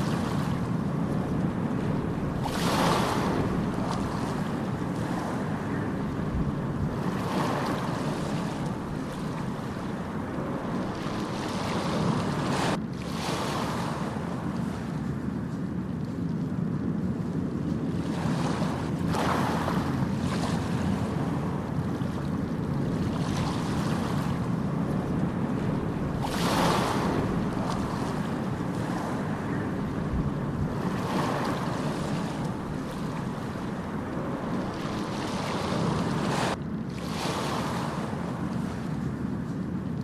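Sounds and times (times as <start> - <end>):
low rumble of sea: 0.0 - 40.0
waves washing in: 0.0 - 40.0.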